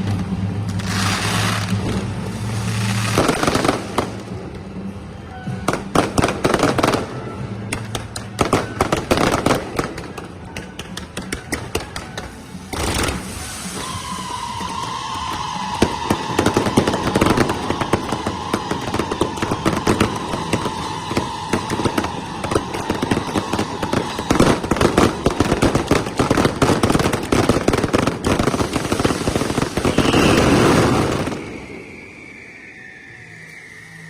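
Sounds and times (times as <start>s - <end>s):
fireworks crackling and banging: 0.0s - 32.8s.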